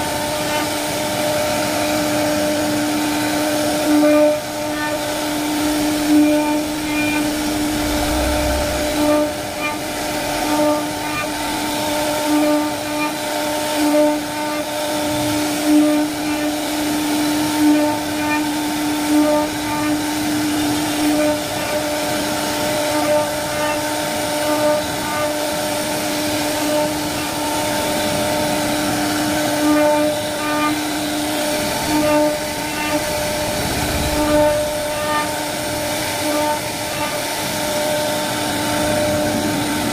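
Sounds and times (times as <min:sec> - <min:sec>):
router spindle whine: 0:00.0 - 0:15.0, 0:21.4 - 0:39.2
router bit cutting wood: 0:00.0 - 0:37.8.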